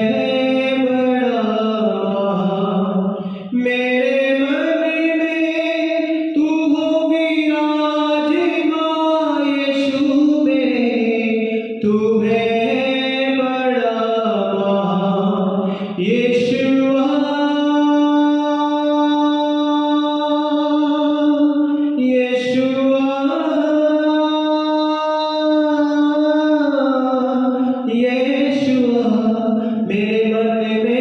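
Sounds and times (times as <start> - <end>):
man singing into a microphone: 0.0 - 31.0.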